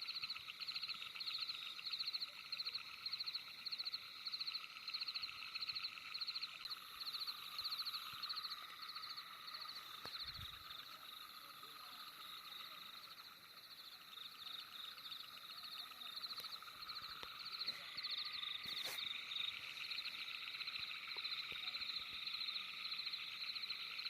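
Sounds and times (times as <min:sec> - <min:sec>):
frogs trilling: 0:00.0 - 0:24.0.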